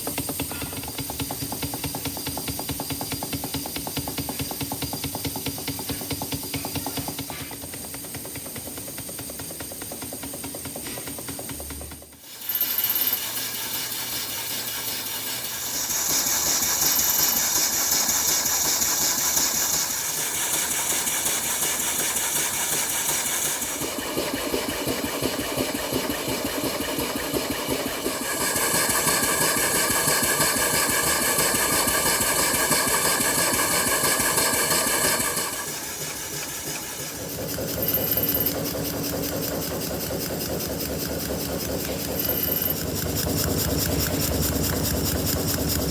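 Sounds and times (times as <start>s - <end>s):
small model engine running: 0.0s - 45.9s.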